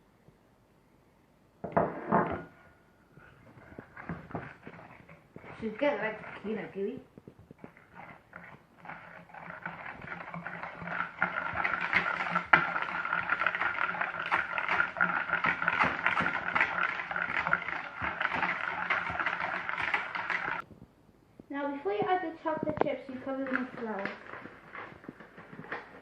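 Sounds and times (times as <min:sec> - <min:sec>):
whisk beating batter in a bowl: 0:03.2 - 0:20.6, 0:22.0 - 0:26.0.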